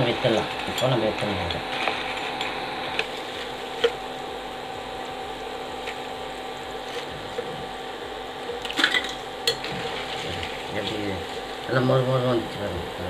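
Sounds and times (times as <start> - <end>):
cooktop hum: 0.0 - 13.0.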